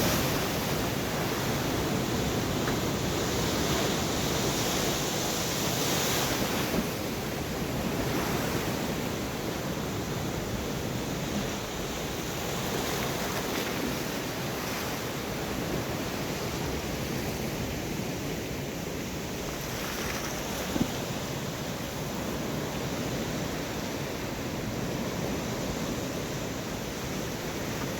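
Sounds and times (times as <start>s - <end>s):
waves breaking on shore: 0.0s - 27.9s
wind: 0.0s - 27.9s.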